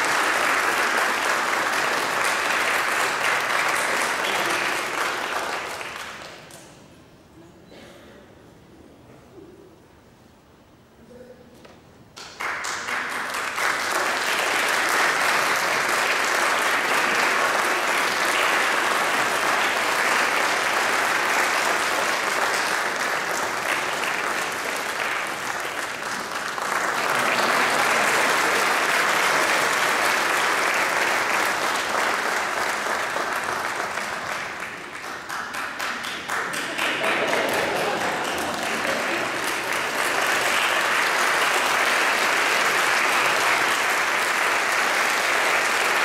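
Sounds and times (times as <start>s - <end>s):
audience applauding: 0.0s - 6.7s, 12.2s - 46.0s.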